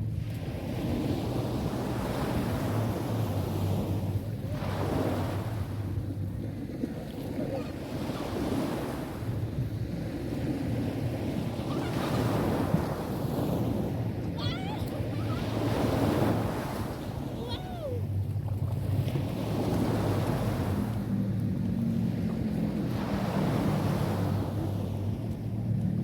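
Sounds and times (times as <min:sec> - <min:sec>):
sea waves breaking on shore: 0:00.0 - 0:26.0
wind buffeting microphone: 0:00.0 - 0:26.0.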